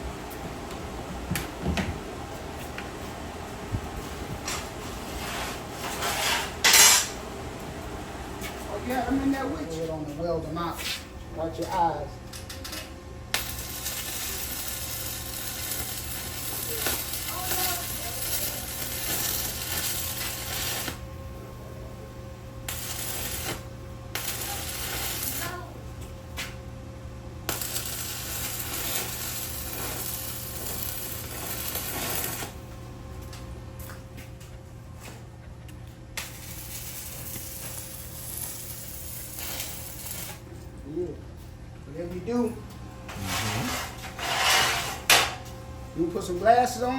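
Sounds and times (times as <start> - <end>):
arc welding crackling: 0.0 - 41.2, 41.9 - 46.9
steady low hum: 0.0 - 46.9.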